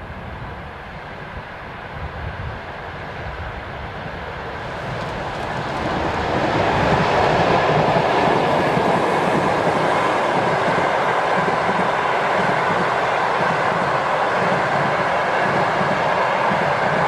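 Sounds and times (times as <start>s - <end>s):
train wheels rumbling on rails: 0.1s - 17.0s.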